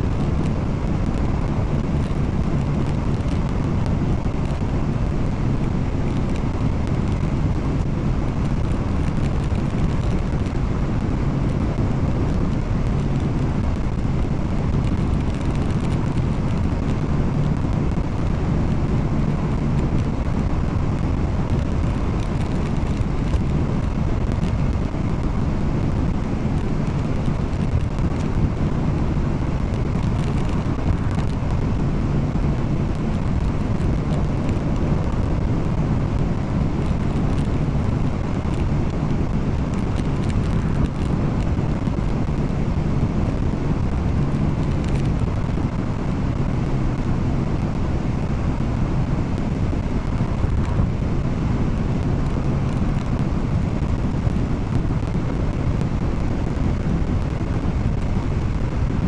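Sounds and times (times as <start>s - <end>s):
car interior road drone: 0.0s - 59.0s.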